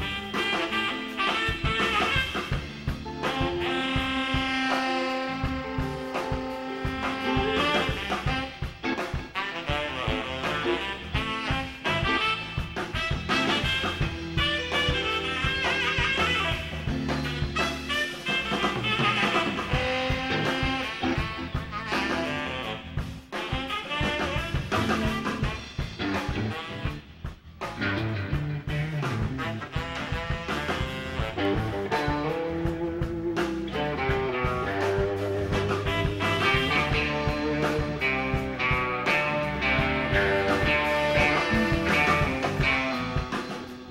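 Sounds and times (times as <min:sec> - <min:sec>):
saxophone: 0:00.0 - 0:28.0, 0:28.6 - 0:43.9
bass and drums: 0:00.0 - 0:43.9
blues band playing: 0:00.0 - 0:43.9
electric guitar lead: 0:00.0 - 0:43.9.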